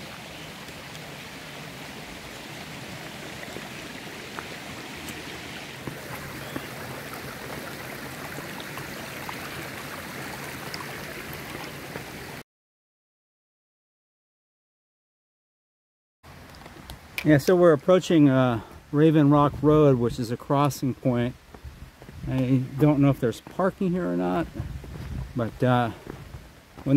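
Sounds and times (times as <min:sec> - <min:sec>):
stream running: 0:00.0 - 0:12.4, 0:16.3 - 0:26.9.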